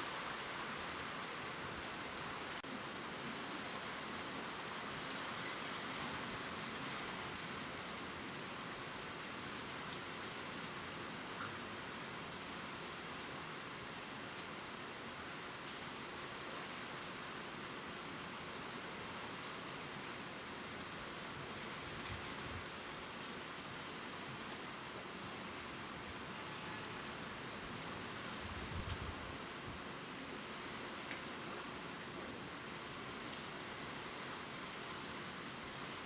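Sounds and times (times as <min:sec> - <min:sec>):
rain pattering on leaves: 0:00.0 - 0:36.0.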